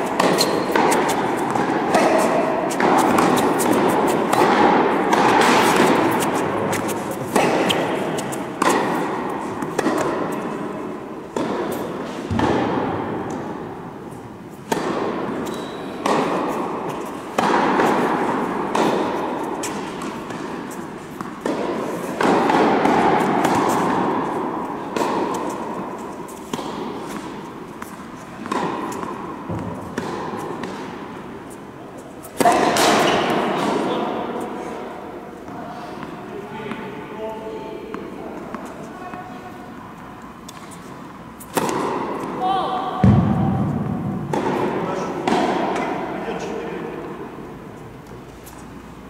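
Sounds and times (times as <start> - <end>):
tennis balls struck and bouncing: 0.0 - 37.0, 37.8 - 48.3.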